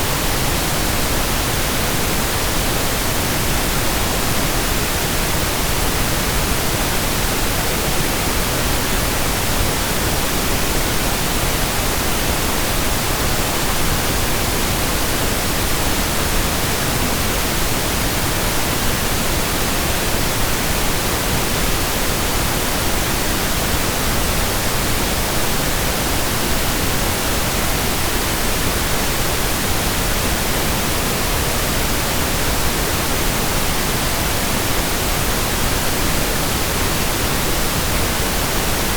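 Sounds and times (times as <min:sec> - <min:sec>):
steady pink noise hiss: 0:00.0 - 0:38.9.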